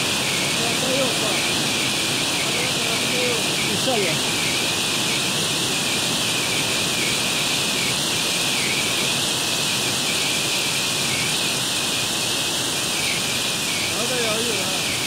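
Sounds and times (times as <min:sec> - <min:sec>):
heavy rain and hail hissing: 0:00.0 - 0:15.0.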